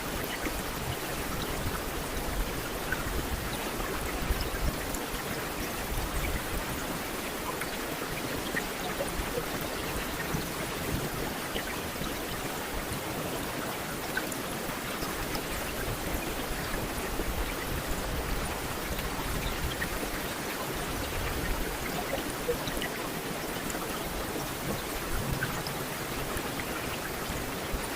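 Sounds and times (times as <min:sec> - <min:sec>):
hiss of rain: 0:00.0 - 0:27.9.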